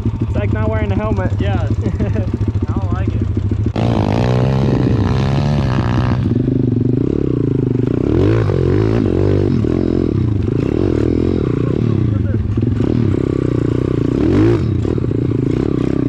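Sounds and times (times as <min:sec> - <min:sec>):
bike rattling: 0:00.0 - 0:16.0
motorbike engine revving: 0:00.0 - 0:16.0.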